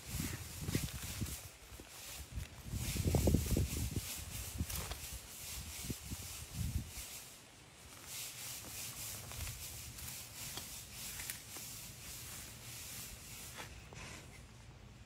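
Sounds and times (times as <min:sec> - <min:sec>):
clawed feet on gravel: 0:00.0 - 0:06.8, 0:07.8 - 0:13.8
steady hiss: 0:00.0 - 0:15.0.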